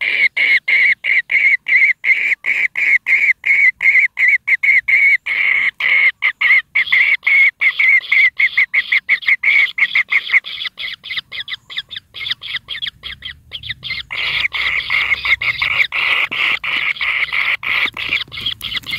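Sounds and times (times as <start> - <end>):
nestlings shrill begging calls: 3.5 - 18.9.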